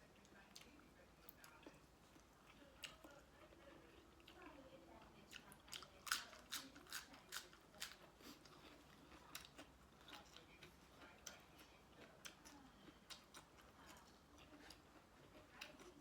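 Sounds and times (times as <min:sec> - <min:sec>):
close-up chewing: 0:00.1 - 0:16.0.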